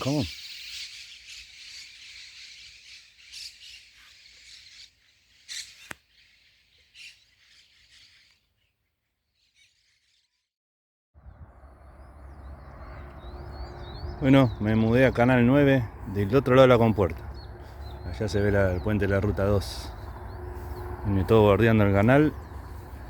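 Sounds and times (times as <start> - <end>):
small birds chirping: 0.0 - 10.5, 11.2 - 23.0.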